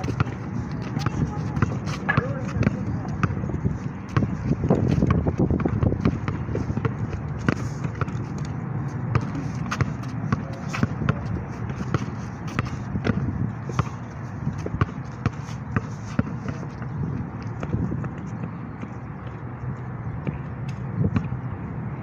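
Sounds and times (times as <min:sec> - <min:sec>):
basketball bouncing on asphalt: 0:00.0 - 0:21.5.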